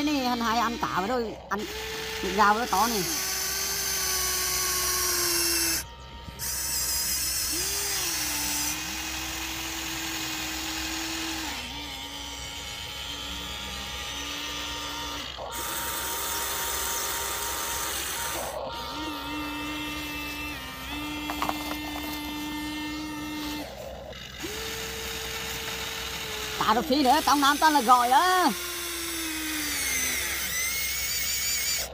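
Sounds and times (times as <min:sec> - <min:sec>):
toy excavator electric motors whining: 0:00.0 - 0:31.9.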